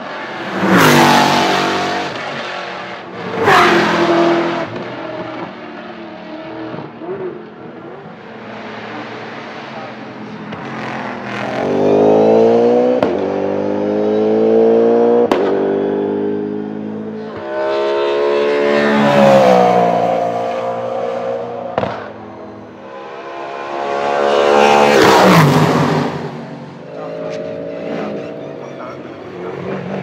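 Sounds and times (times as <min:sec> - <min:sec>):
race car engines accelerating: 0:00.0 - 0:30.0.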